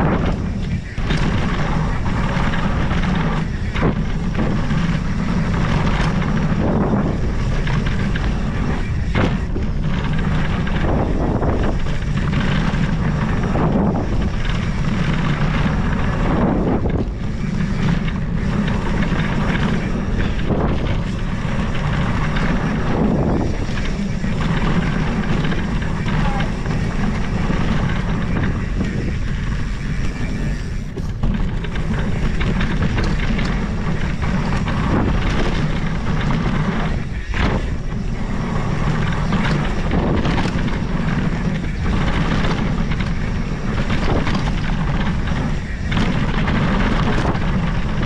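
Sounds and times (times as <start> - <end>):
tyres rumbling on dirt: 0.0 - 48.0
wind rush on microphone: 0.0 - 48.0.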